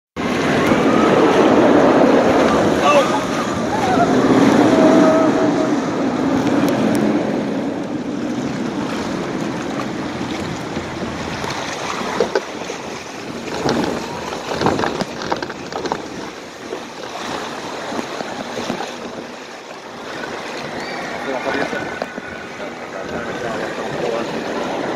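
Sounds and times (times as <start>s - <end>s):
water rushing along trough: 0.2s - 24.9s
wind buffeting microphone: 0.2s - 24.9s.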